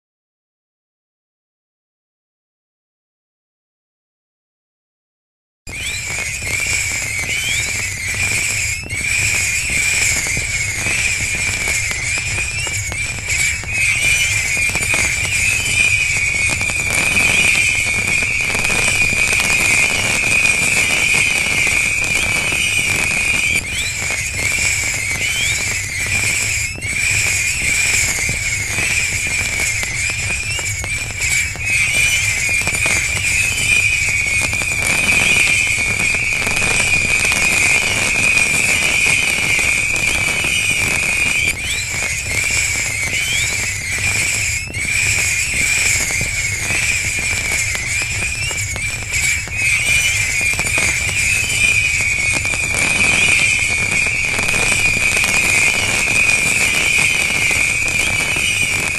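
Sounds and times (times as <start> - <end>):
fireworks firing: 5.7 - 58.9
fireworks hiss and crackle: 5.7 - 58.9
high whistle of fireworks: 5.7 - 58.9
short rising whistles: 5.7 - 58.9.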